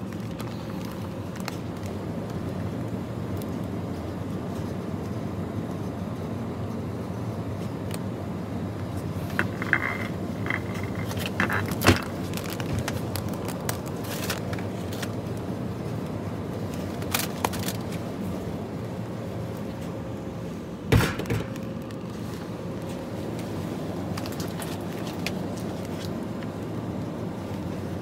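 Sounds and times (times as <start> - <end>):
low supermarket hum: 0.0 - 28.0.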